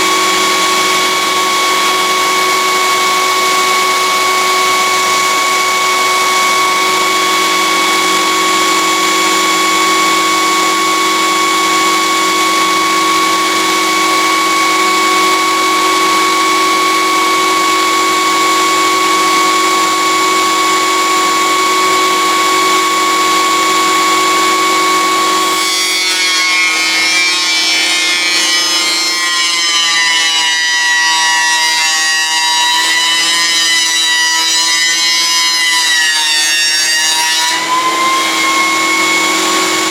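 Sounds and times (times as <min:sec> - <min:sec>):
jointer planer whining: 0:00.0 - 0:39.9.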